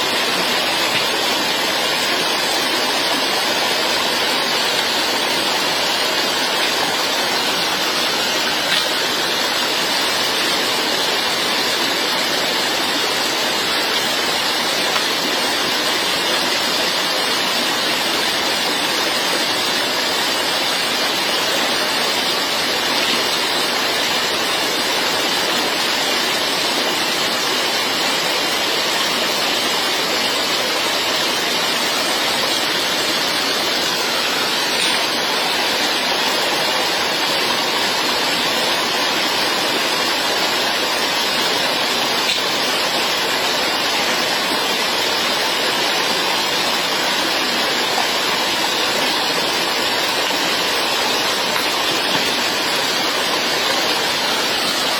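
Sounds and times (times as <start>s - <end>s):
rushing water: 0.0s - 54.9s.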